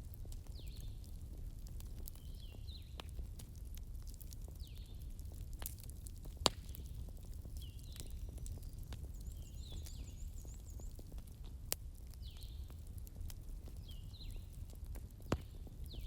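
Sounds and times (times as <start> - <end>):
campfire crackling: 0.0 - 16.0
fire rumble: 0.0 - 16.0.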